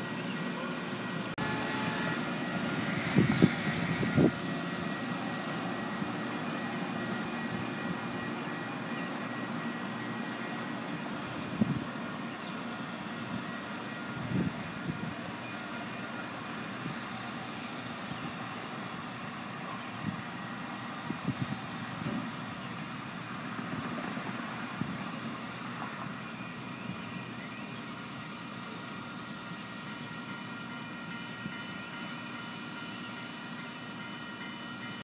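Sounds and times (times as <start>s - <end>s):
diesel train droning: 0.0s - 35.0s.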